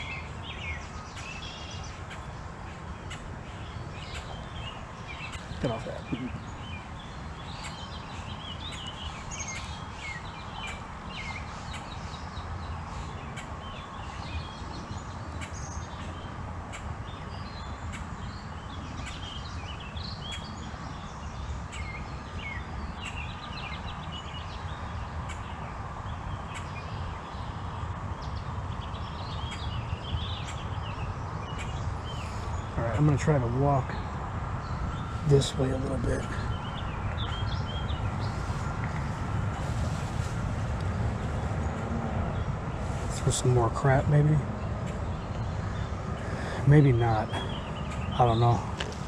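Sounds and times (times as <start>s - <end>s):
low outdoor rumble: 0.0s - 49.0s
small songbirds chirping: 0.0s - 49.0s.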